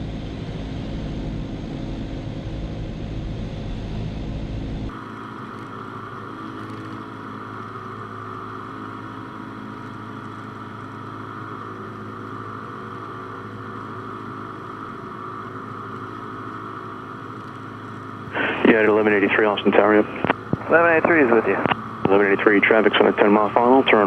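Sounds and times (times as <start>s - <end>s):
airplane engine and propeller drone: 0.0s - 24.0s.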